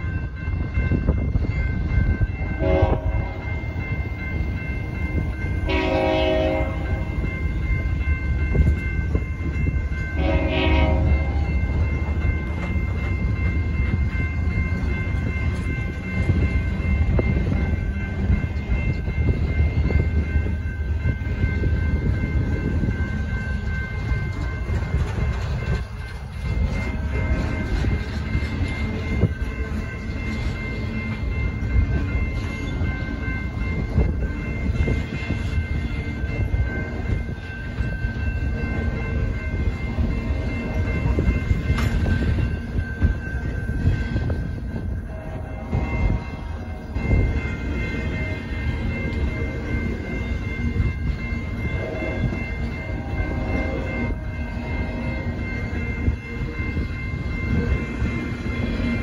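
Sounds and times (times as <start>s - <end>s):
high-pitched tones: 0.0s - 59.0s
steel wheels rumbling on rail: 0.0s - 59.0s.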